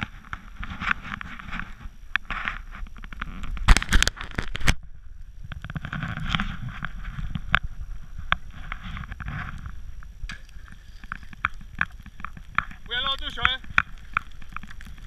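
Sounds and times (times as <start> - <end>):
wind on microphone: 2.7 - 15.0.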